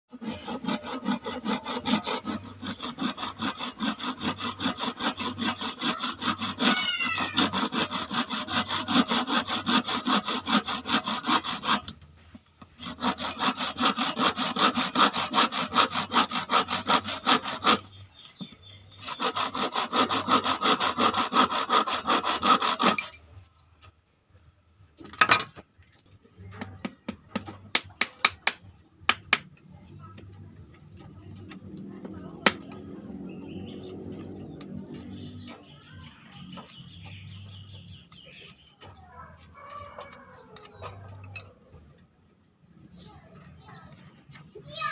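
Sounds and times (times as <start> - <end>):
handsaw cutting wood: 0.1 - 23.2, 27.3 - 41.6.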